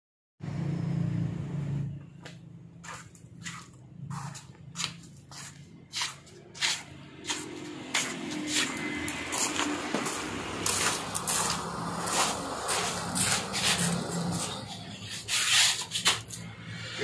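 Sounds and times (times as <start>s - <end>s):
sandals slapping on concrete: 2.2s - 16.6s.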